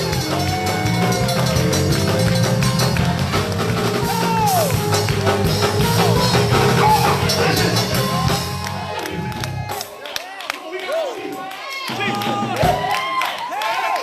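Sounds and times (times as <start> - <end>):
band with drums and bass: 0.0 - 10.0, 11.8 - 13.1.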